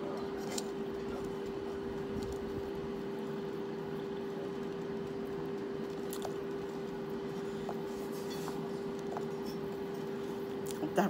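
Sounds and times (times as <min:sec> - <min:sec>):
steady hum: 0:00.0 - 0:11.0
fingers squishing soft food: 0:00.1 - 0:10.8.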